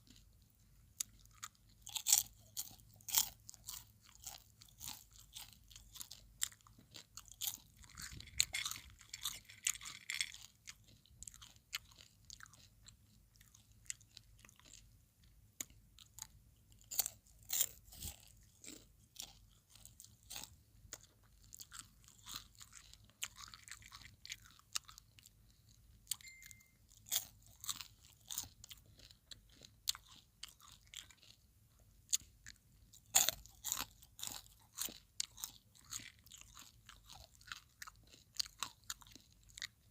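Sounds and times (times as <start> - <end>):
popcorn being chewed: 0.0 - 39.9.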